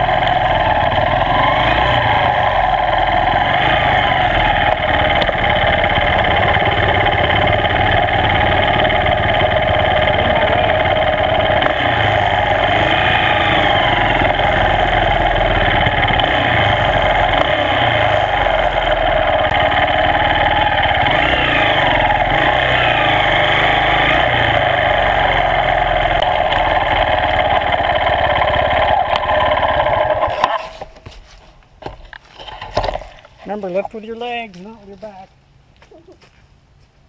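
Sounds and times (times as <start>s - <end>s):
dirt bike engine idling: 0.0s - 31.3s.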